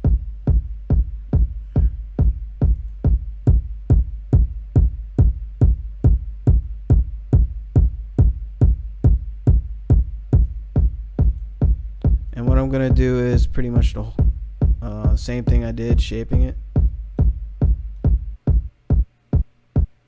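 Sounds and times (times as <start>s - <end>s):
electronic kick drum loop: 0.0s - 20.0s.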